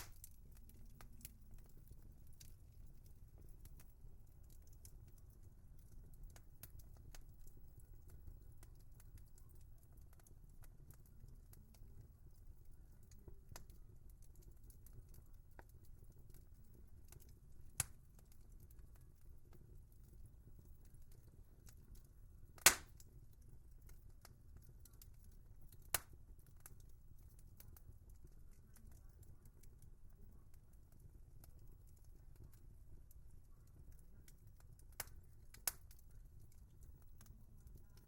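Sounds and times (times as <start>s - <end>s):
flames rumbling: 0.0s - 38.0s
wood fire crackling: 0.0s - 38.0s.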